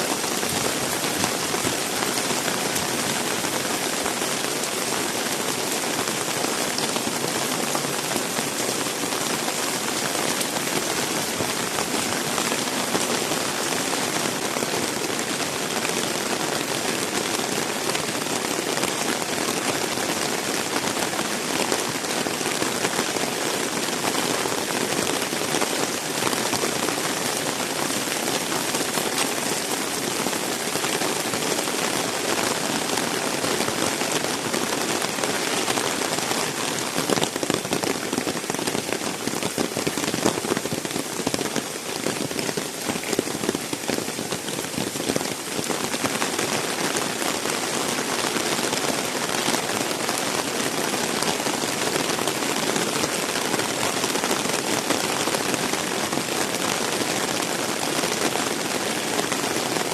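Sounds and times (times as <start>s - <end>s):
heavy rain splattering: 0.0s - 59.9s.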